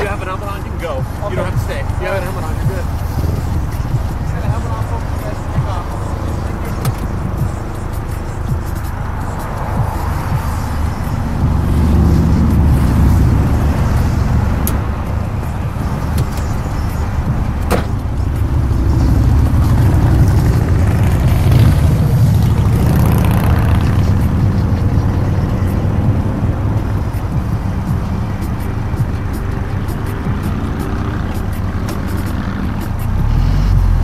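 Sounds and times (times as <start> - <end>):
car engine running: 0.0 - 34.0
road and wind noise: 0.0 - 34.0.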